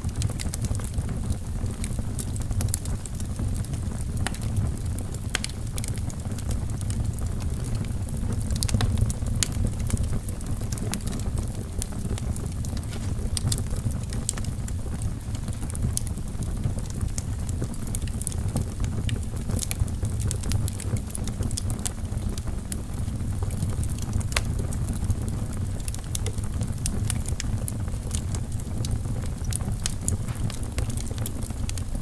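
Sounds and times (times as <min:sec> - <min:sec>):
burning wood crackling and popping: 0:00.0 - 0:32.0
low rumble of flames: 0:00.0 - 0:32.0.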